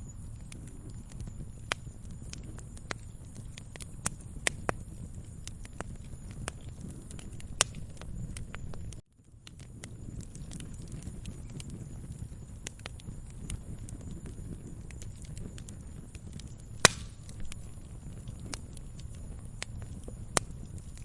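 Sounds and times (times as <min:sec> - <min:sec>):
low rumble of burning: 0:00.0 - 0:21.0
wood fire crackling: 0:00.0 - 0:21.0.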